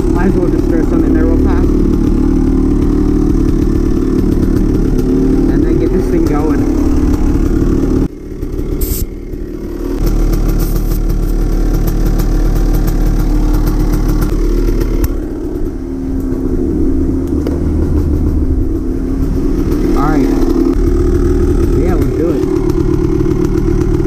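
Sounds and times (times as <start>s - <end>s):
dirt bike engine idling: 0.0s - 24.0s.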